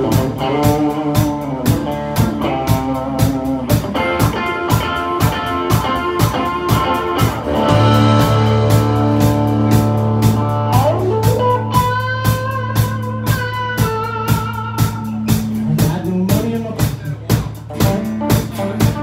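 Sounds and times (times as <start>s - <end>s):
bending lead melody line: 0.0s - 16.8s
drum kit steady beat: 0.0s - 19.0s
live country band playing: 0.0s - 19.0s.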